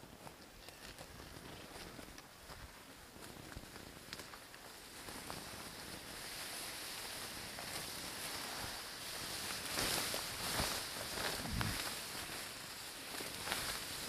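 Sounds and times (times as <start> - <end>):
grass and reeds rustling on microphone: 0.0 - 14.0.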